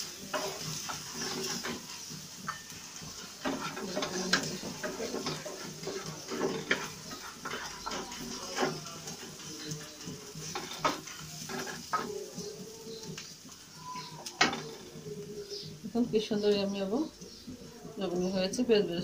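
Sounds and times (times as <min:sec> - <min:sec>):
spatula scraping a frying pan: 0:00.0 - 0:15.8
oil sizzling: 0:00.0 - 0:19.0.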